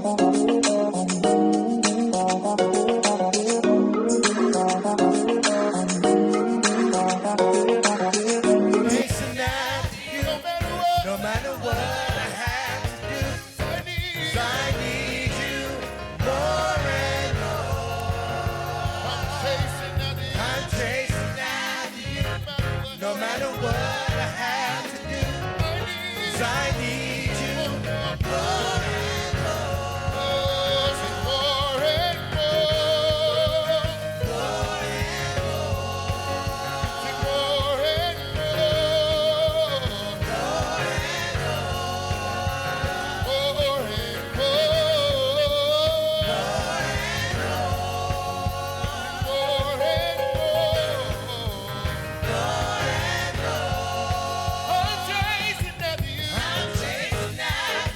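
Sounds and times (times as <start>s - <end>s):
gospel singing with band: 6.7s - 57.9s.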